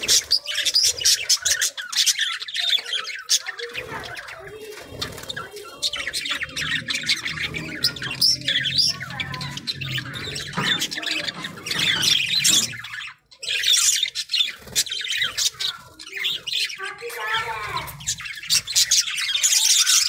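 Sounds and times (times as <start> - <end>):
budgerigars chattering and squawking: 0.0 - 20.0.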